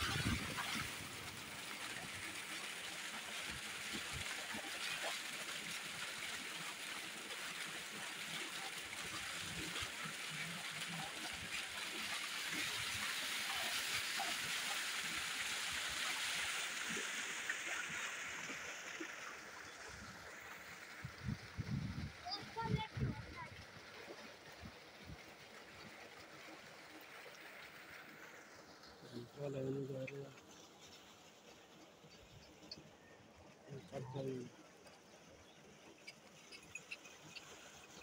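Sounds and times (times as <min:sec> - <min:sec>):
water pouring into tank: 0:00.0 - 0:31.3
water splashing: 0:00.0 - 0:38.0.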